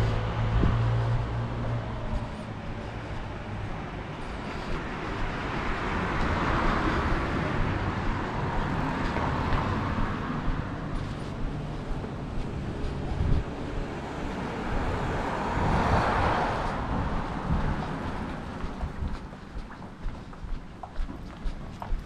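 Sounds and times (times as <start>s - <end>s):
low traffic rumble: 0.0s - 22.0s
passing car: 0.0s - 22.0s.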